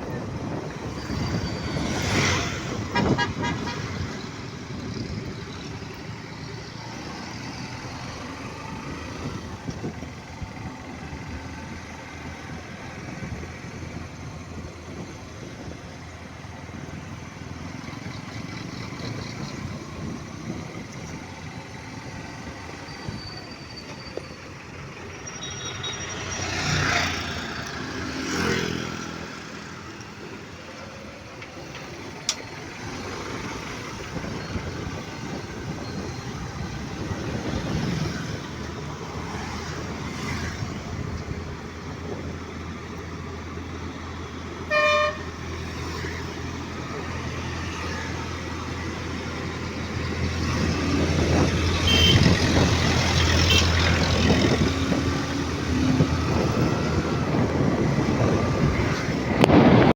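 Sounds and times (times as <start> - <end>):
traffic rumble: 0.0 - 59.9
vehicles passing close by: 0.0 - 59.9.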